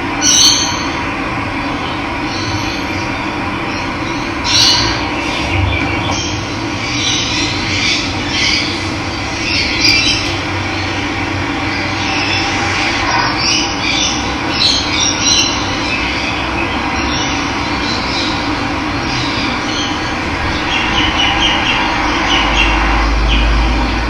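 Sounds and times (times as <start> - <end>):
birds calling and squawking: 0.1 - 24.0.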